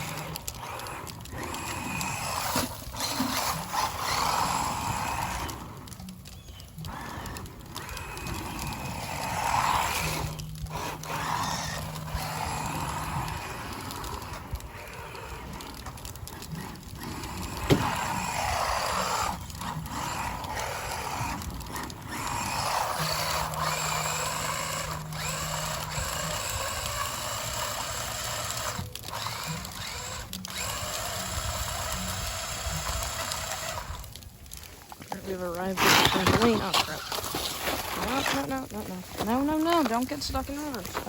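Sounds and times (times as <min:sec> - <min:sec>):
electric motor whining: 0:00.0 - 0:41.0.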